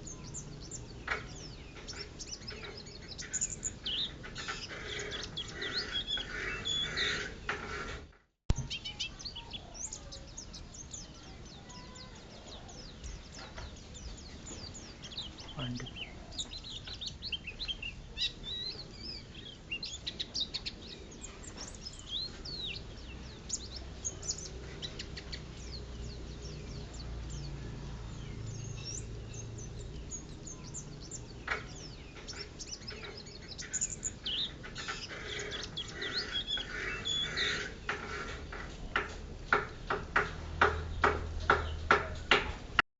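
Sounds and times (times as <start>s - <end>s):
bird twittering chirps and trills: 0.0s - 42.8s.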